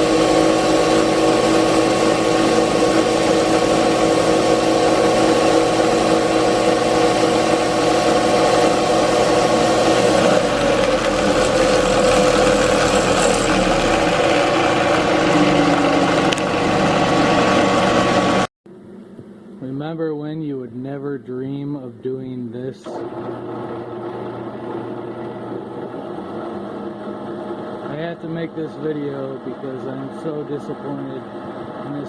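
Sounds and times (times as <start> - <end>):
drill press motor whining: 0.0 - 18.5, 22.9 - 32.0.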